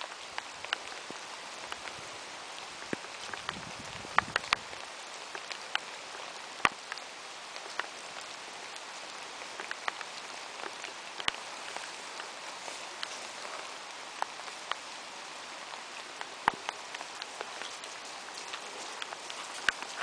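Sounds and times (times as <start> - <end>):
rain hiss: 0.0 - 20.0.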